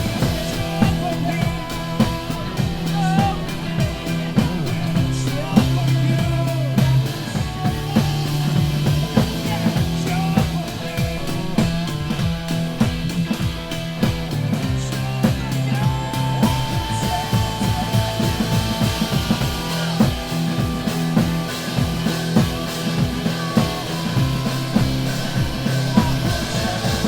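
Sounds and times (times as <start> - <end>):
drum kit playing: 0.0 - 27.0
rock song with bass and vocals: 0.0 - 27.0.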